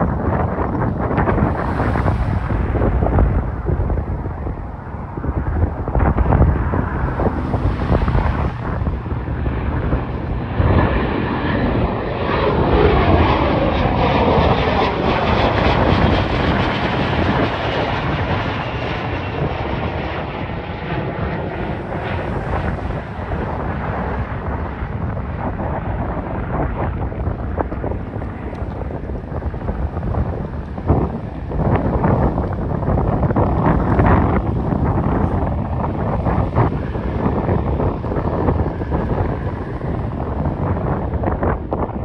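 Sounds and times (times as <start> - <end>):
airplane engine passing by: 0.0 - 42.0
wind buffeting microphone: 0.0 - 42.0.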